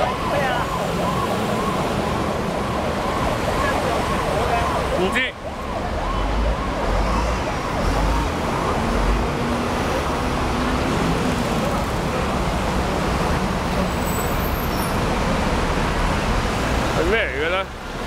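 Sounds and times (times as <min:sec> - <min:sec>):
passing vehicles rushing: 0:00.0 - 0:18.0.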